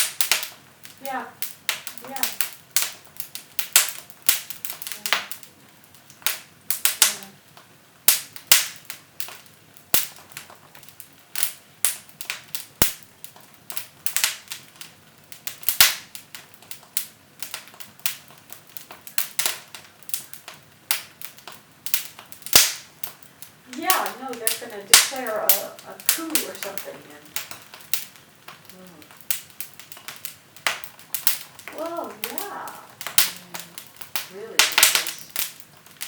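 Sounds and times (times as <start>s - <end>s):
firewood crackling and popping: 0.0s - 36.0s.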